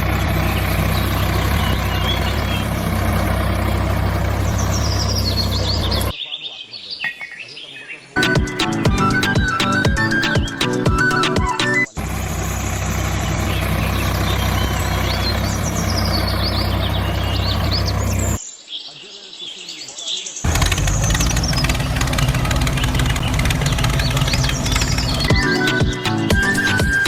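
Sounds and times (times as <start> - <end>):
engine idling: 0.0 - 6.1, 8.2 - 18.4, 20.5 - 27.0
birds chirping: 0.0 - 27.0.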